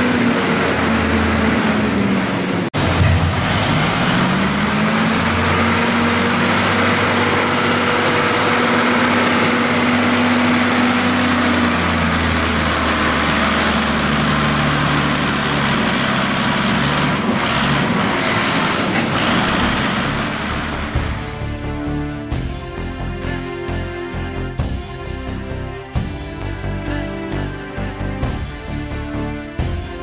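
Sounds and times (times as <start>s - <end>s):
diesel loader engine running: 0.0s - 30.0s.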